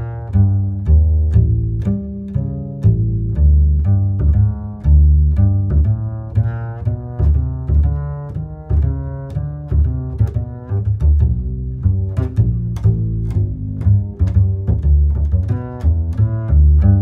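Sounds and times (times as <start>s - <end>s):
instrumental music with low bass: 0.0s - 17.0s.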